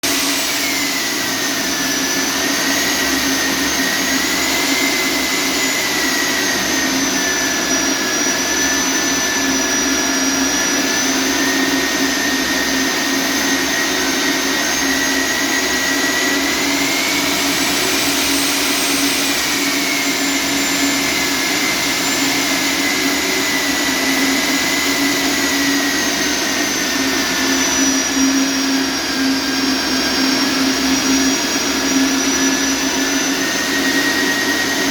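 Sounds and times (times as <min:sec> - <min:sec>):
electric core drill whining: 0:00.0 - 0:34.9.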